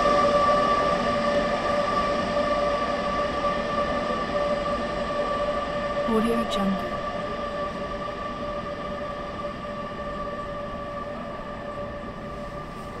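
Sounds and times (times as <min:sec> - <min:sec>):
metro train whining: 0:00.0 - 0:13.0
train rumbling: 0:00.0 - 0:13.0.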